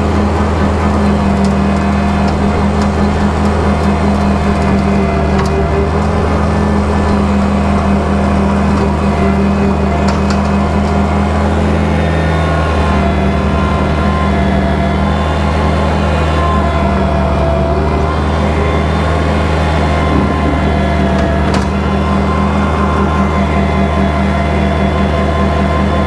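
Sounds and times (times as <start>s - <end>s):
rotary cutter: 0.0s - 26.0s
tractor diesel engine running: 0.0s - 26.0s.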